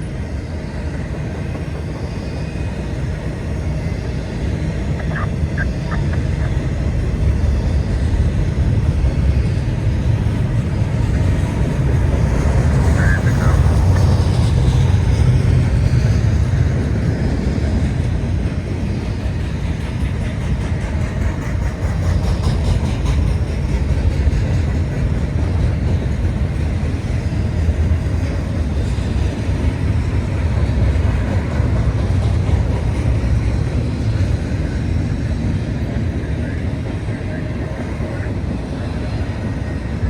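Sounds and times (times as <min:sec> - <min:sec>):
freight train wheels rumbling on rail: 0:00.0 - 0:40.0.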